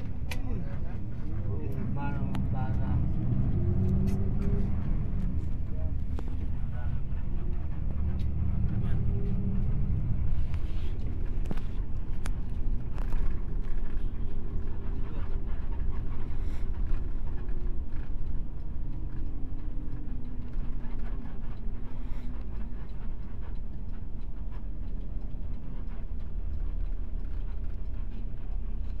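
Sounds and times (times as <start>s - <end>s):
bus engine drone: 0.0s - 29.0s
road rumble: 0.0s - 29.0s.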